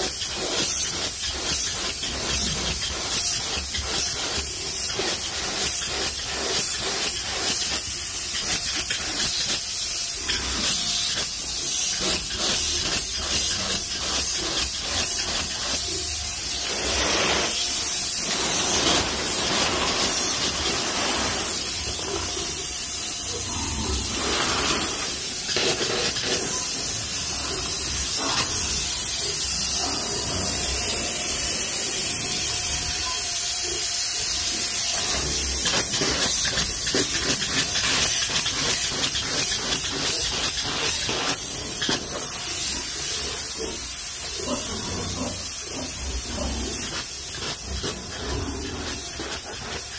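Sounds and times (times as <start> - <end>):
spray foam gun hissing: 0.0 - 49.9.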